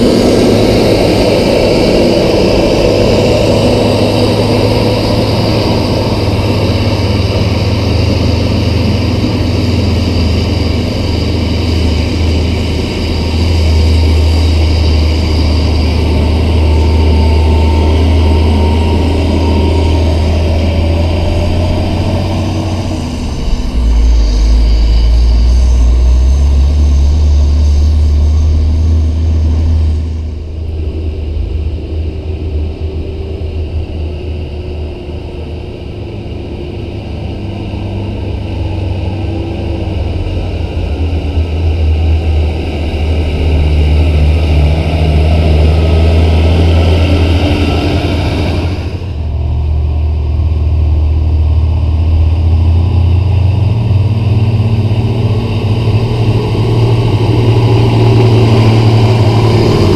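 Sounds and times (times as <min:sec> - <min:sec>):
dump truck diesel engines driving past: 0:00.0 - 0:59.9.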